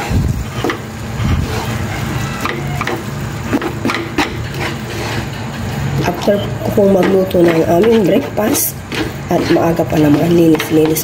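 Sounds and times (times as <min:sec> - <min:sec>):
food sizzling: 0:00.0 - 0:11.0
wooden spatula scraping frying pan: 0:00.0 - 0:11.0.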